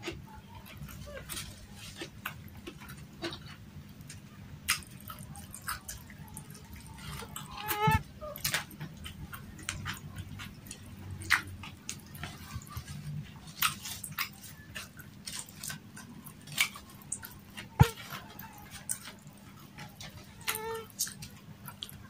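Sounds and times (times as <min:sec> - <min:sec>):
chewing with wet lip smacks: 0:00.0 - 0:22.0.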